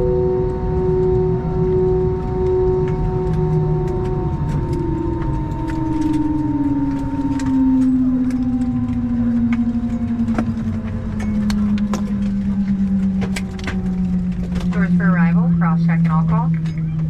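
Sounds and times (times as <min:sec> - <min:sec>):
airliner engines spooling down: 0:00.0 - 0:17.0
low cabin rumble: 0:00.0 - 0:17.0.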